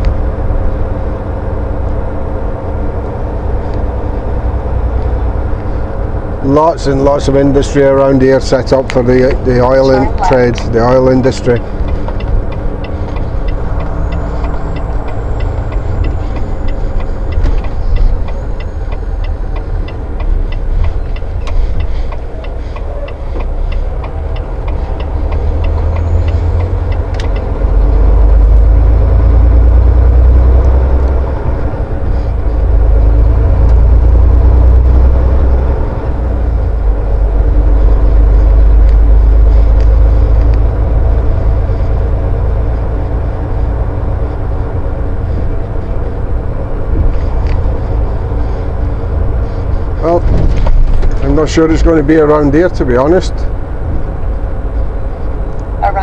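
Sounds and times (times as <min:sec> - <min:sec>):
road noise: 0:00.0 - 0:56.0
truck engine drone: 0:00.0 - 0:56.0
regular ticking: 0:01.8 - 0:50.2.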